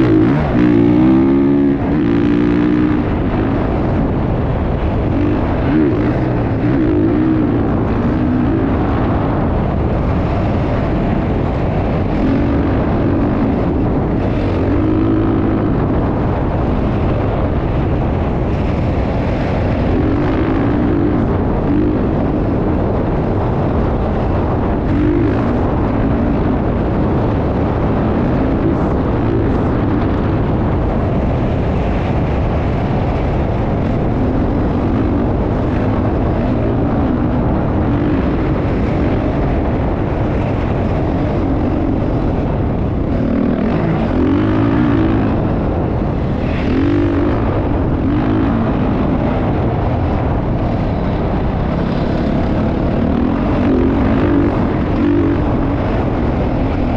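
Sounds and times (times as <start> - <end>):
motocross bike engine: 0.0 - 56.9.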